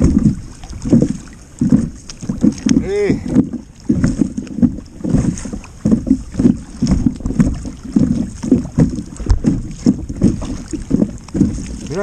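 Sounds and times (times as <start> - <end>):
water slapping against kayak hull: 0.0 - 12.0
wind buffeting microphone: 0.0 - 12.0.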